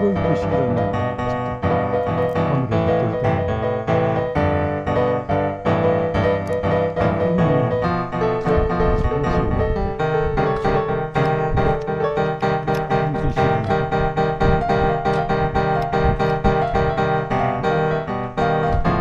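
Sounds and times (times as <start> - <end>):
background piano music: 0.0 - 19.0.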